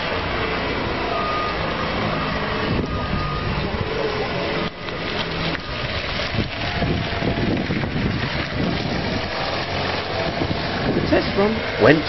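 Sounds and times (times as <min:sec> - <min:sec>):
small car driving on tarmac: 0:00.0 - 0:12.0
wind buffeting microphone: 0:01.8 - 0:12.0.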